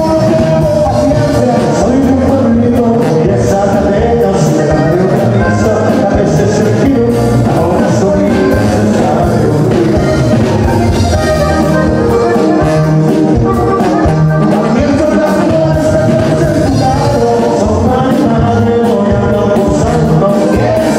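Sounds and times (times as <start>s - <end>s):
button accordion: 0.0s - 20.9s
drums: 0.0s - 20.9s
twelve-string guitar strumming: 0.0s - 20.9s.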